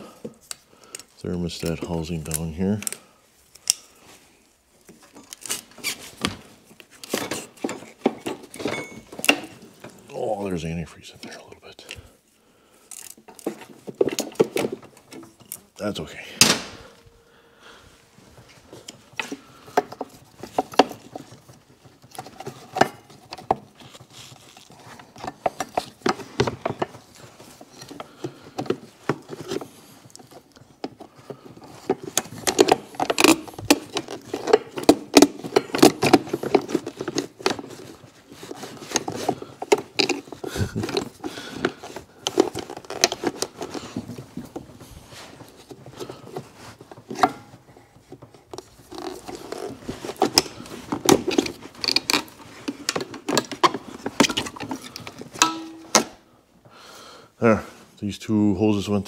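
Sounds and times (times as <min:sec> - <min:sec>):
hand tools and engine parts rattling: 0:00.0 - 0:12.1, 0:12.8 - 0:17.1, 0:18.0 - 0:56.3.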